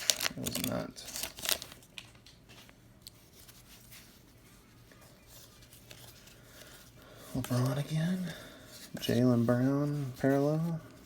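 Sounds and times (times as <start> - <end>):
low room hum: 0.0 - 11.0
trading cards rustling and clicking: 0.0 - 11.0.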